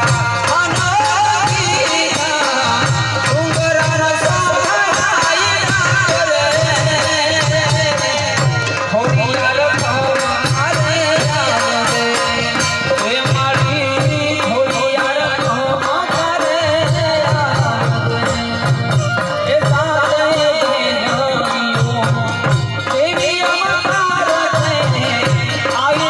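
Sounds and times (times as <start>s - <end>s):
hand drums beating: 0.0s - 26.0s.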